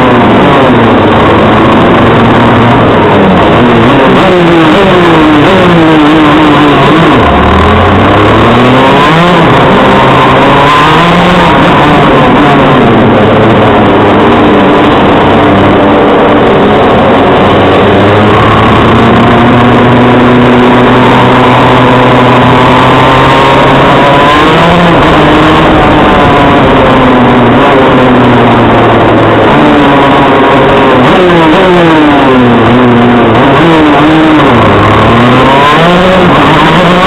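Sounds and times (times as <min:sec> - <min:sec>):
kart engine at racing speed: 0:00.0 - 0:37.0
other kart engines: 0:00.0 - 0:37.0.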